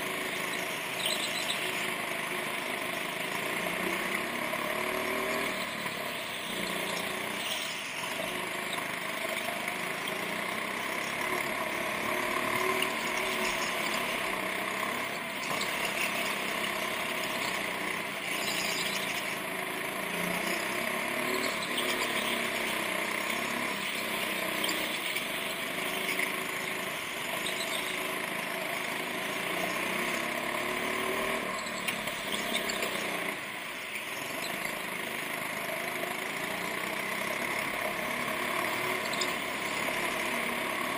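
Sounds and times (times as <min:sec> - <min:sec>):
go-kart engine: 0:00.0 - 0:40.9.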